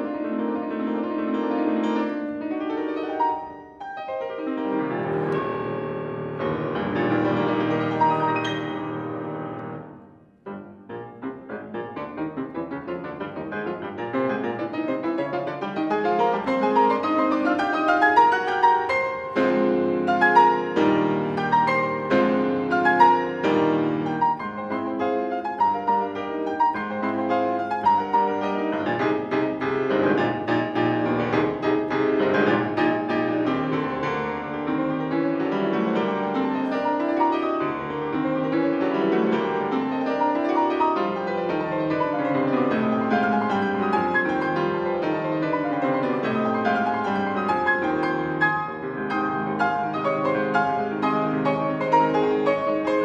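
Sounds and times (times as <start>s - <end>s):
grand piano playing classical piece: 0.0s - 53.0s.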